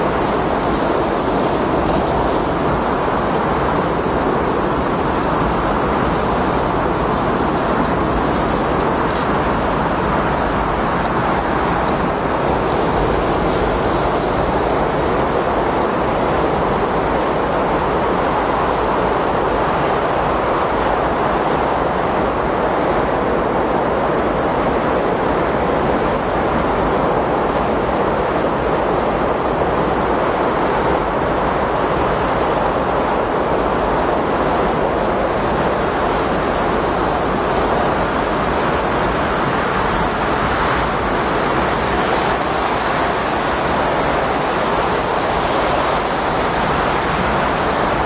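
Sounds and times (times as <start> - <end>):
strong wind rushing: 0.0 - 48.0.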